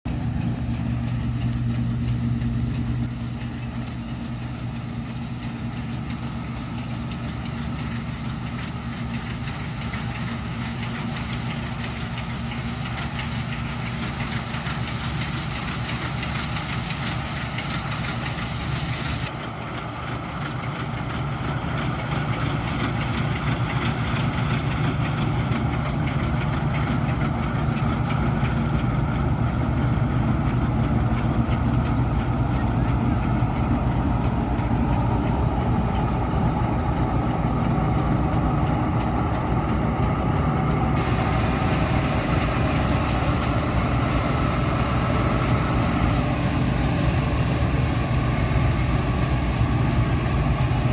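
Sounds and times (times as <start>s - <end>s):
machinery engine hum: 0.0s - 50.9s
high hiss of working noise: 0.1s - 50.9s.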